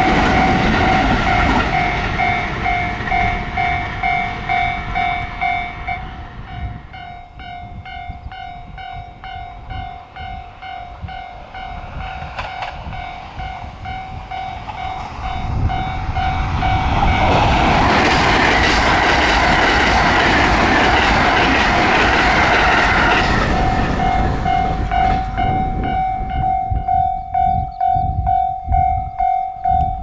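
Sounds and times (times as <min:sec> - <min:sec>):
electric train rumble: 0:00.0 - 0:30.0
level-crossing warning bell: 0:00.0 - 0:30.0.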